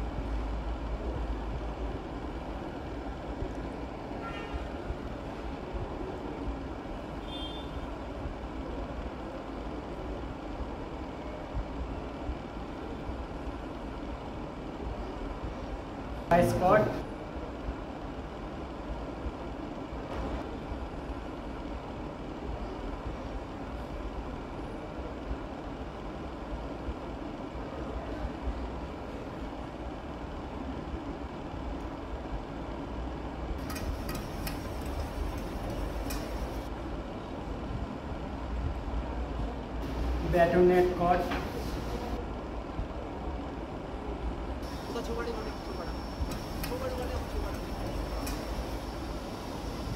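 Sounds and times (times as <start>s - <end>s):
low background hum: 0.0s - 49.9s.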